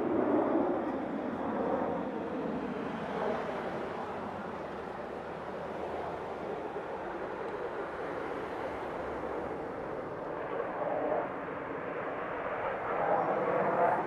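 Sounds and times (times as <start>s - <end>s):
distant jet engine roar: 0.0s - 14.0s.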